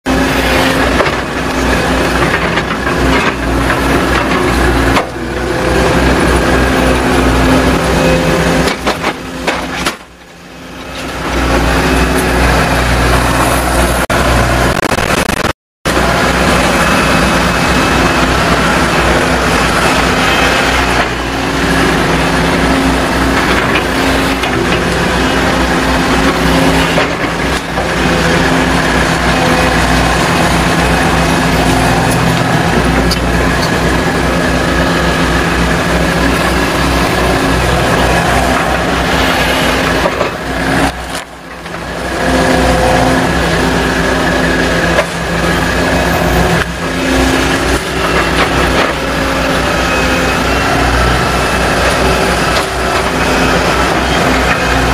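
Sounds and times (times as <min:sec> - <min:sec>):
excavator diesel engine running: 0:00.1 - 0:54.9.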